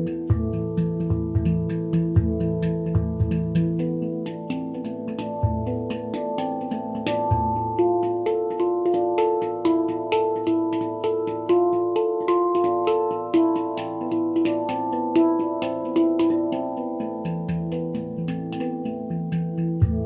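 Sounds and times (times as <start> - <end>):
deep handpan note ringing: 0.0 - 20.0
handpan ringing notes: 0.0 - 20.0.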